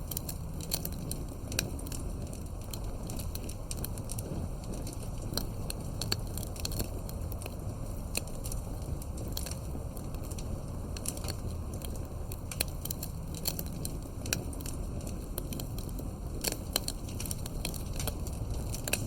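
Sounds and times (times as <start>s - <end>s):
campfire crackling and popping: 0.0s - 19.0s
fire low rumble: 0.0s - 19.0s.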